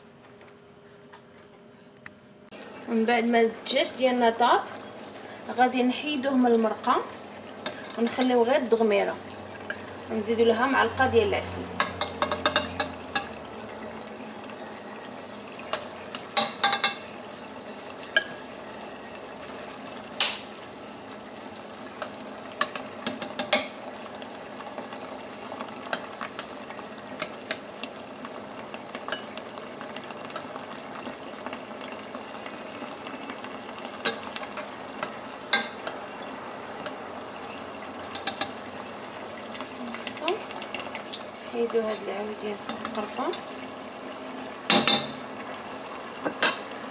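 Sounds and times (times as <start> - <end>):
sauce bubbling in a pot: 2.5 - 46.9.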